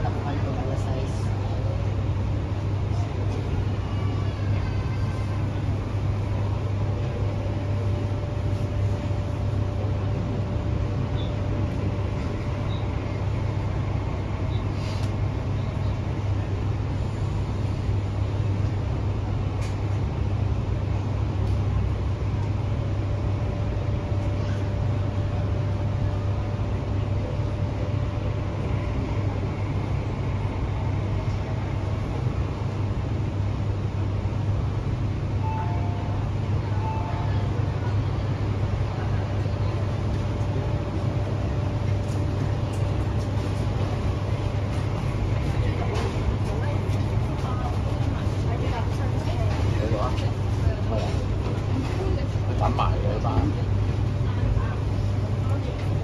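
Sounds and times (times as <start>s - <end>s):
train deep rumble: 0.0s - 56.0s.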